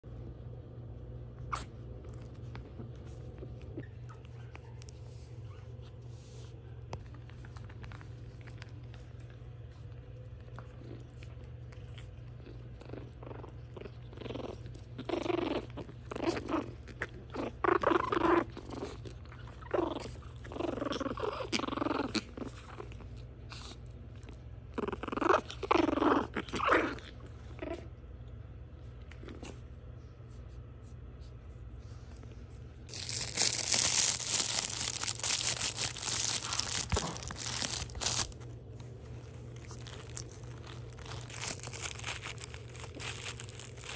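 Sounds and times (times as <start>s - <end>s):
steady low hum: 0.0s - 43.9s
puppies play-growling: 1.3s - 43.9s.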